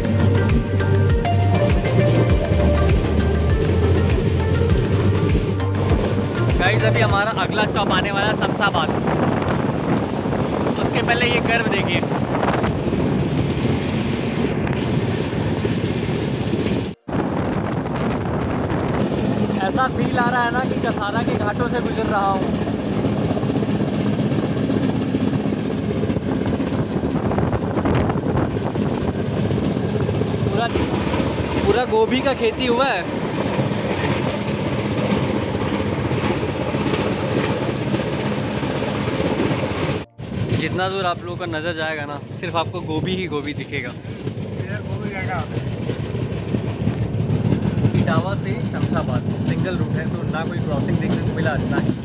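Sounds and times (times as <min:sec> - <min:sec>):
train wheels on rails: 0:00.0 - 0:52.0
wind rushing past microphone: 0:01.7 - 0:52.0.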